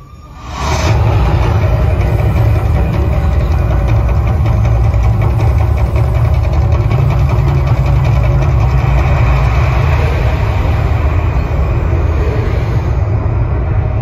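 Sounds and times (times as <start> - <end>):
deep rumble of gas flames: 0.2 - 14.0.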